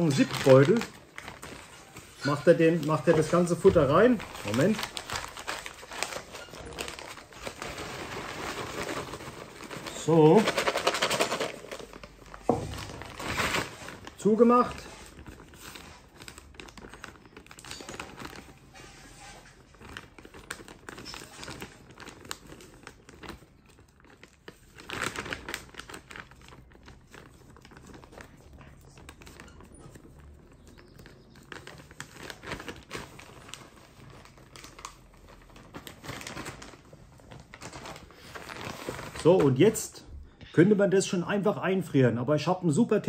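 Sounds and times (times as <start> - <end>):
plastic bag crinkling: 0.0 - 40.5.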